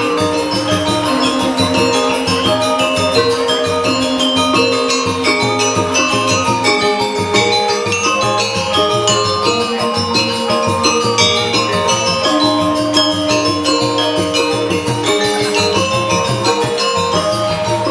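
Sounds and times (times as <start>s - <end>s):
gamelan metallophones ringing: 0.0s - 17.9s.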